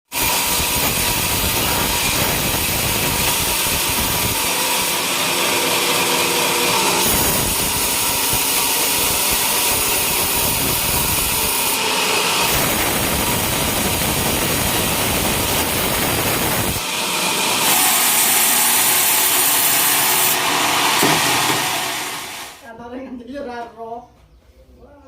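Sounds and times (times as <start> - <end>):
sawmill saw cutting log: 0.1 - 22.6.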